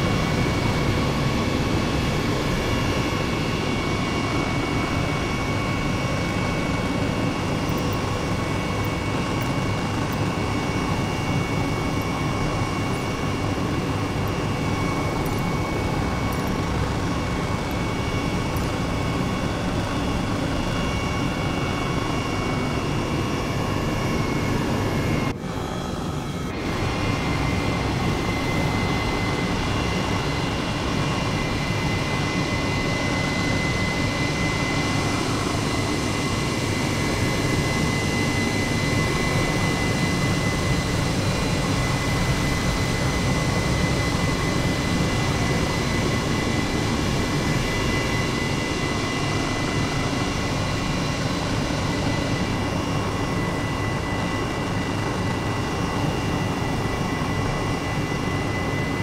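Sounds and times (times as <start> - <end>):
constant high whine: 0.0 - 59.0
helicopter engine and rotor noise: 0.0 - 59.0.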